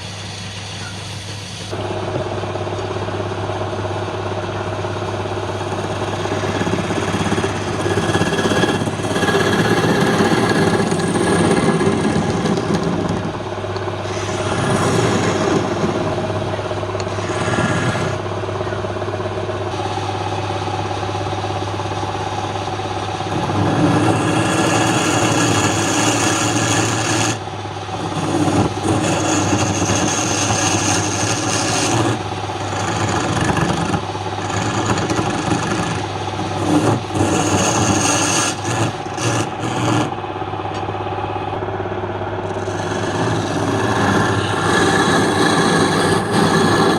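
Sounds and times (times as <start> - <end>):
lathe motor hum: 0.0 - 46.9
tool scraping spinning wood: 1.7 - 46.9.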